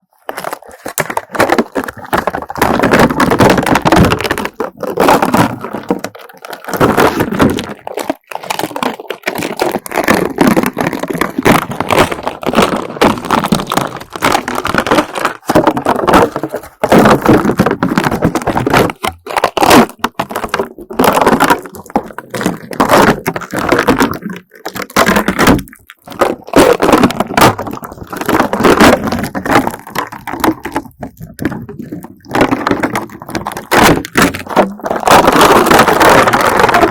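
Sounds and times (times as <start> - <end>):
slime crackling and popping: 0.0 - 36.9.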